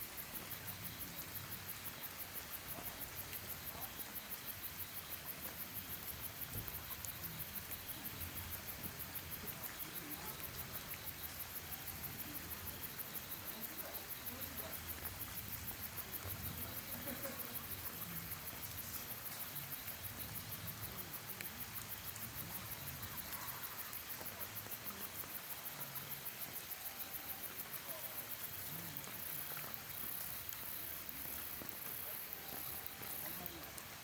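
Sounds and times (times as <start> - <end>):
forest ambience rustle: 0.0 - 34.0
insect calling in rapid pulses: 0.0 - 34.0.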